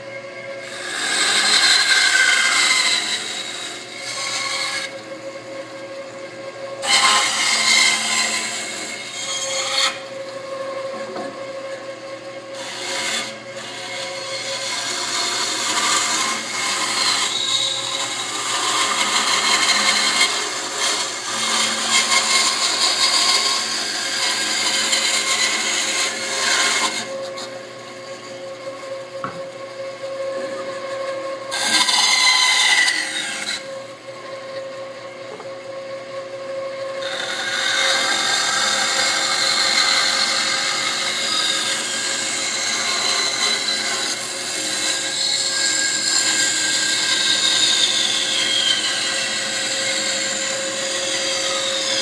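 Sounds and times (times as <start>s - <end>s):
band saw motor hum: 0.0s - 52.0s
band saw blade cutting wood: 0.6s - 5.5s, 6.8s - 11.5s, 12.5s - 28.4s, 30.1s - 33.8s, 37.0s - 52.0s.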